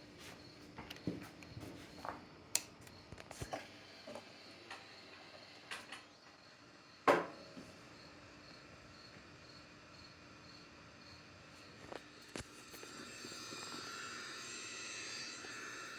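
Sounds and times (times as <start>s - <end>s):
crickets chirping: 0.0s - 15.9s.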